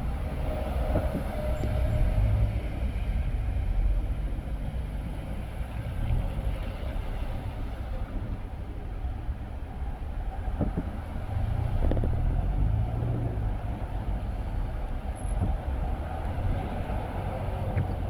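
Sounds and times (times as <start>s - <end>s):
car tyres and engine rumble: 0.0s - 18.0s.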